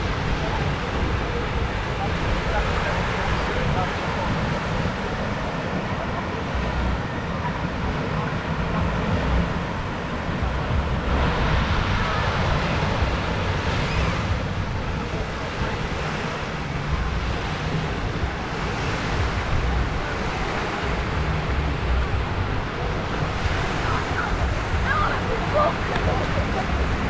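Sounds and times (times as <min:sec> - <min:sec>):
small waves washing onto shore: 0:00.0 - 0:27.0
wind rumbling on microphone: 0:00.0 - 0:27.0.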